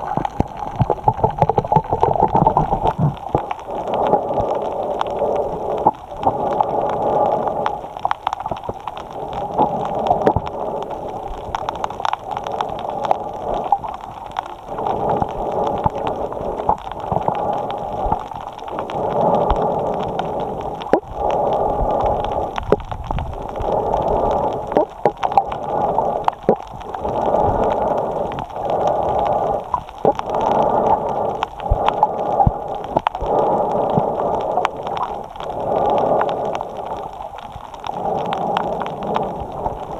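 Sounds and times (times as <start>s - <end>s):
breathing through a snorkel: 2.0s - 8.2s, 9.0s - 39.9s.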